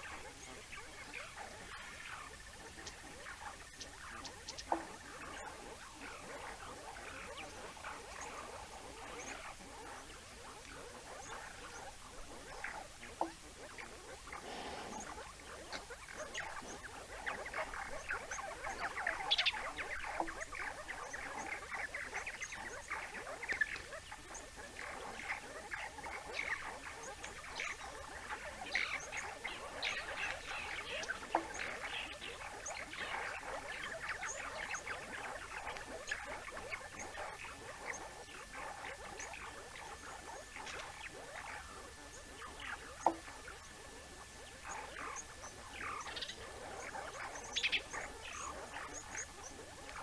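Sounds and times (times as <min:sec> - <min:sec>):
mongooses chirping and twittering: 0:00.0 - 0:50.0.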